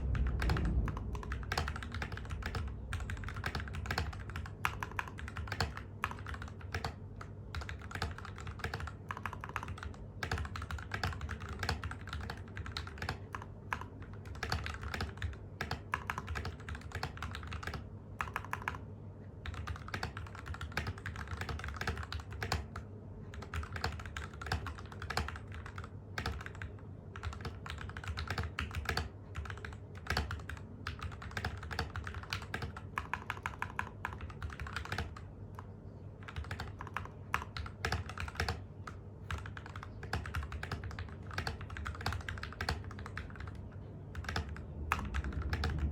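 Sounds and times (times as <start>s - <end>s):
mechanical keyboard typing: 0.0s - 45.9s.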